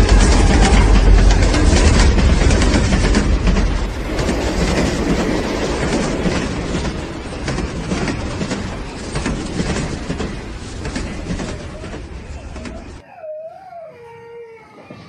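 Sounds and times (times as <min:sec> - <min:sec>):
train coaches rumbling and rattling: 0:00.0 - 0:13.0.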